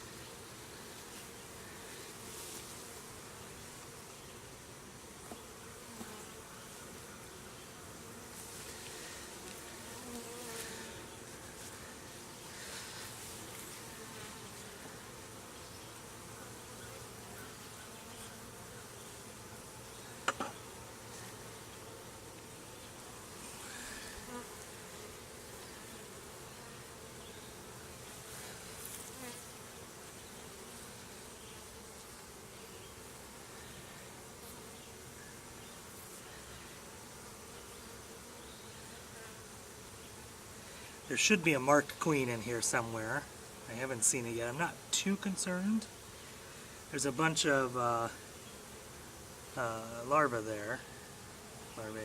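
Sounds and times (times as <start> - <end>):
honeybees buzzing: 0.0 - 52.0.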